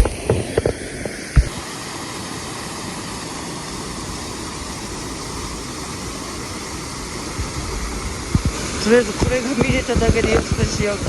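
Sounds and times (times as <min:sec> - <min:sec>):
river water rushing: 0:00.1 - 0:11.0.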